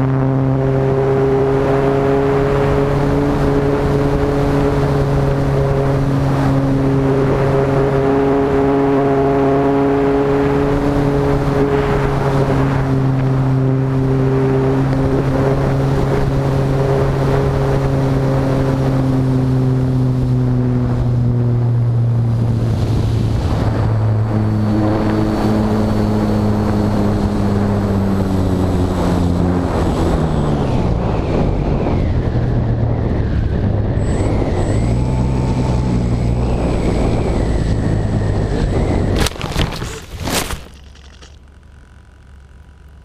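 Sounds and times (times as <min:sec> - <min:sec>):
wind rush on microphone: 0:00.0 - 0:40.3
electric motor and propeller drone: 0:00.0 - 0:43.0.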